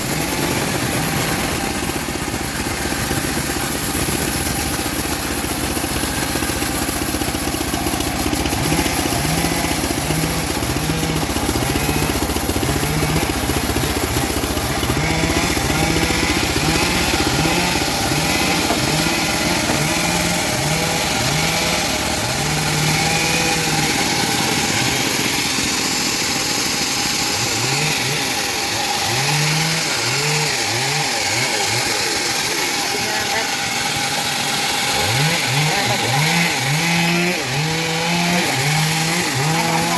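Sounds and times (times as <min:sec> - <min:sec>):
saw blade ripping through log: 0:00.0 - 0:39.9
sawmill engine running: 0:00.0 - 0:39.9.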